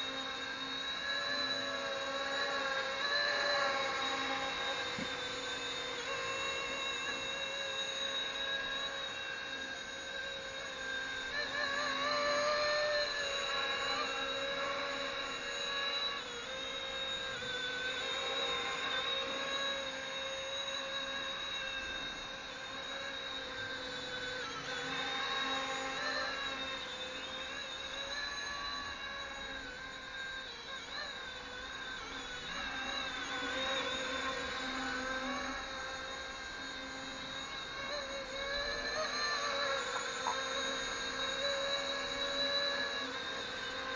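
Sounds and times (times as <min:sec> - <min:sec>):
model helicopter motor whine: 0:00.0 - 0:43.9.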